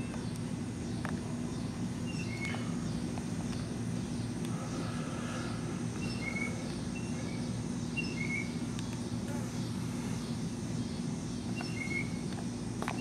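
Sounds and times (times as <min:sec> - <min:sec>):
small bird chirping: 0:00.0 - 0:12.4
steady low hum: 0:00.0 - 0:13.0.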